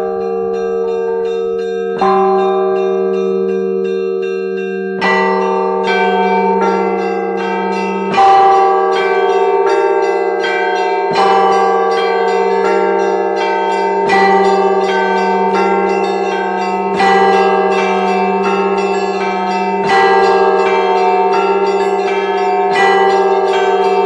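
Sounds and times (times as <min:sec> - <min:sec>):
heavy low bell strikes: 0:00.0 - 0:24.0
higher bells ringing patterns: 0:00.0 - 0:24.0.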